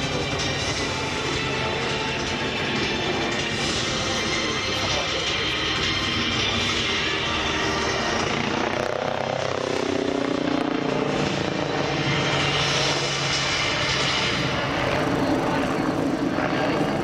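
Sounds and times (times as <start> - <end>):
helicopter flying by: 0.0 - 17.0.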